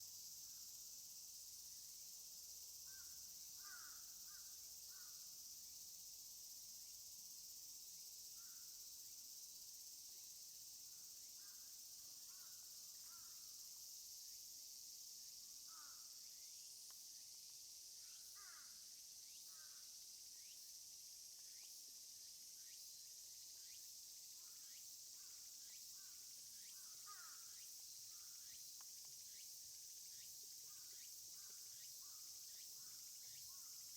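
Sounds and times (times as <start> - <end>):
insect chorus drone: 0.0 - 33.9.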